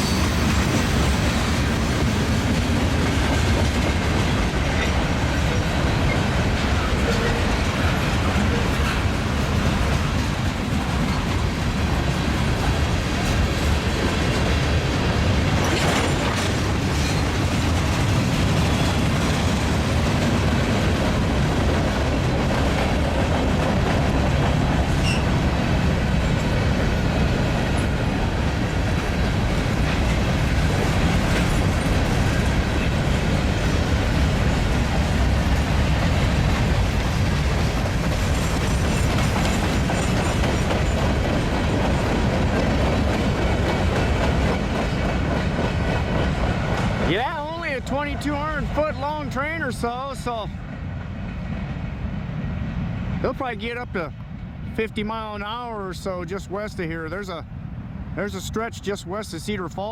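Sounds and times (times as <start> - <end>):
wheels clattering on rails: 0.0 - 50.5
freight train rumbling past: 0.0 - 59.9.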